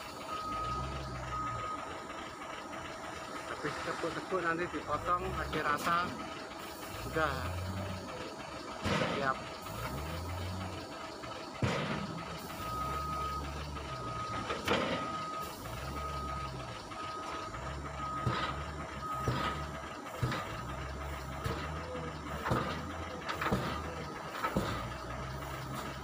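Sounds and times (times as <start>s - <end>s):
wheel loader diesel engine: 0.0s - 26.0s.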